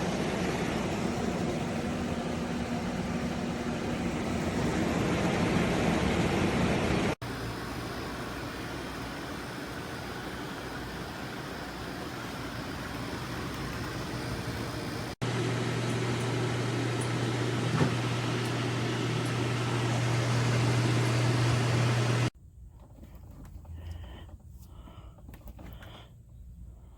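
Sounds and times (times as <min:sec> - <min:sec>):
air conditioner fan rushing: 0:00.0 - 0:26.9.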